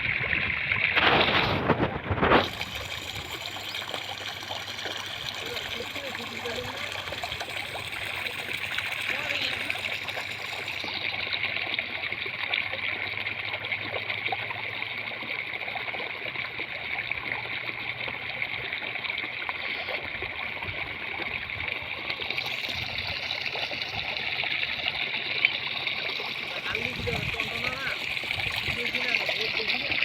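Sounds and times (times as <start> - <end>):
rushing trickling water: 0.0 - 30.0.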